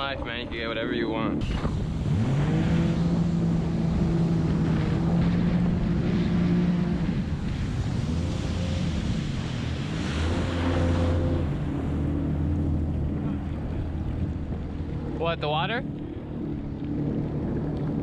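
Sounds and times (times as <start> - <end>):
jet ski engine running: 0.0 - 18.0
wind on microphone: 0.0 - 18.0.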